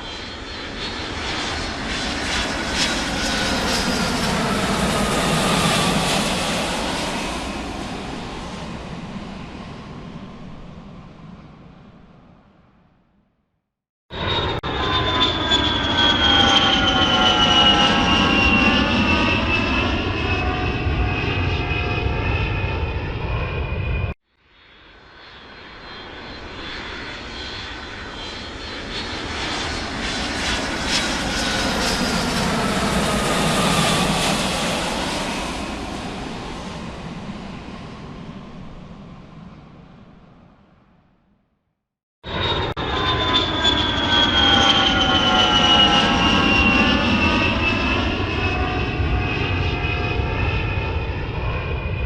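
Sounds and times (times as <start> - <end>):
jet aircraft flying past: 0.0 - 13.0, 14.1 - 41.2, 42.2 - 52.0.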